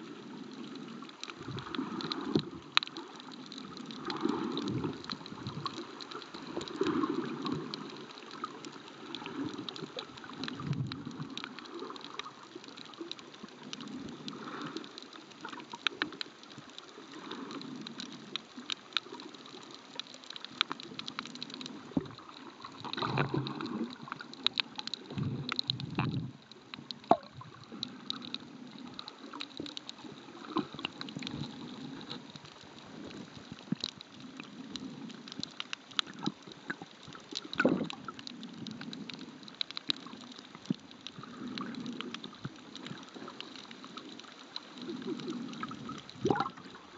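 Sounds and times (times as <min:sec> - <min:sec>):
water sloshing underwater: 0:00.0 - 0:46.9
sharp clicks and crackles: 0:00.2 - 0:46.9.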